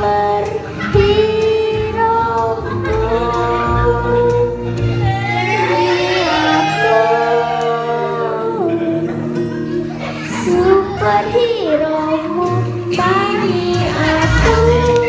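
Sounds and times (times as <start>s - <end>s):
girl singing: 0.0s - 15.0s
musical accompaniment: 0.0s - 15.0s.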